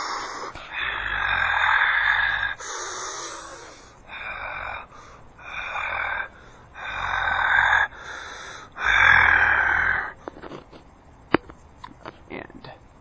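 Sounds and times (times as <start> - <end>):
raspy wheezing breath noises: 0.0 - 10.5.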